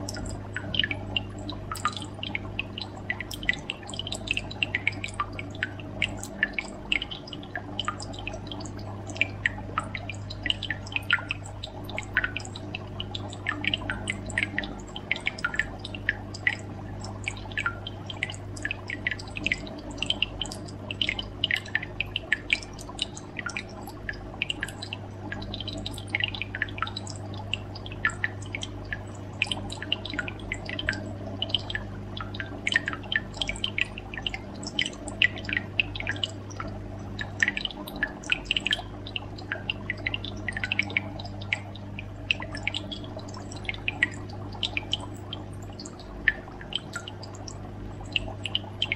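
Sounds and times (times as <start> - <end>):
water dripping and bubbling: 0.0 - 48.9.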